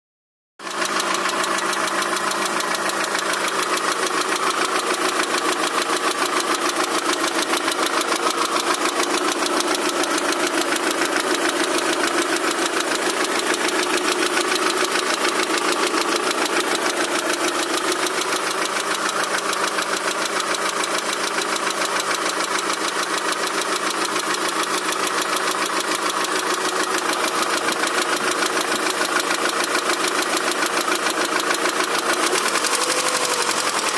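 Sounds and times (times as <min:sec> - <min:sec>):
car engine running: 0:00.6 - 0:33.9
fast knocking inside engine: 0:00.6 - 0:33.9.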